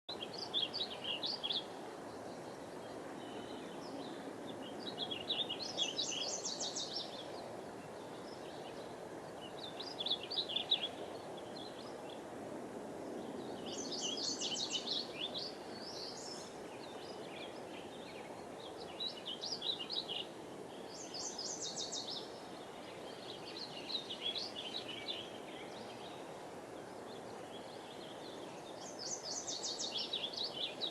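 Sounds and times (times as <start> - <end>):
birds singing: 0.1 - 12.2, 13.2 - 30.9
river rushing: 0.2 - 30.9.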